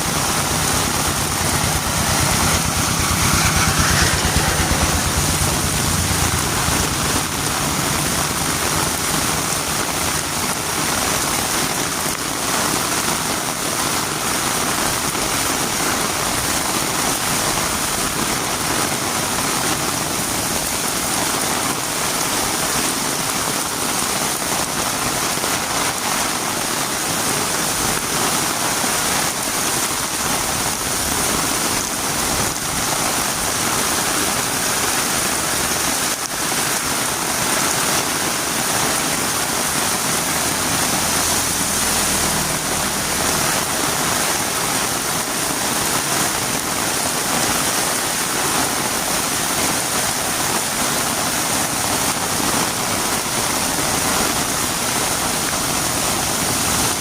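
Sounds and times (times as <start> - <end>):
heavy rain on a road: 0.0 - 57.0.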